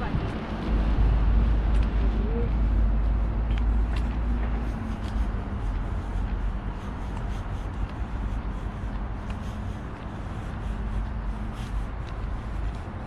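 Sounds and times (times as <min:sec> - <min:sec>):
traffic noise: 0:00.0 - 0:13.0
vehicle engine rumbling: 0:00.0 - 0:13.0.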